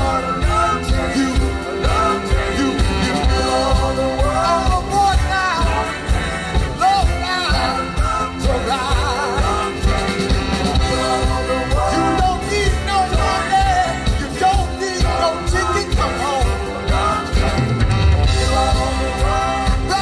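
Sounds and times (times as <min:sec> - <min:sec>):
electric guitars: 0:00.0 - 0:20.0
keyboard: 0:00.0 - 0:20.0
person singing: 0:00.0 - 0:20.0
steady drum beat: 0:00.0 - 0:20.0.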